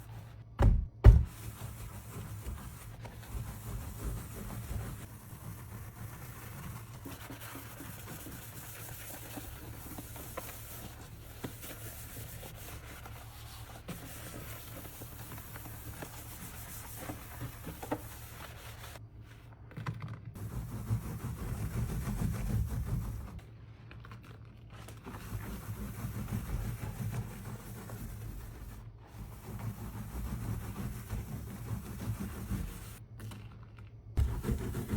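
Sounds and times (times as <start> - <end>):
scrubbing a kitchen sink: 0.0 - 19.0, 20.4 - 23.8, 24.9 - 33.0, 34.2 - 34.9.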